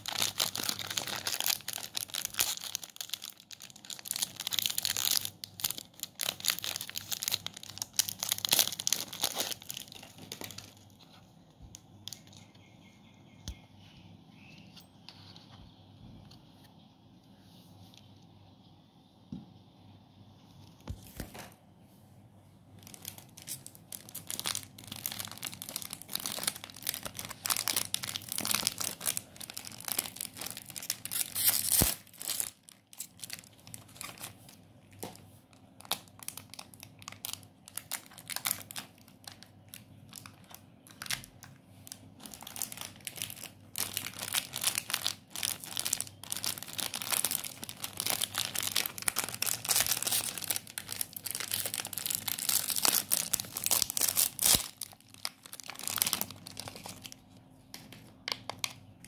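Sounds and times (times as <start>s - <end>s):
plastic wrappers crinkling and tearing: 0.0s - 12.5s, 22.8s - 58.8s.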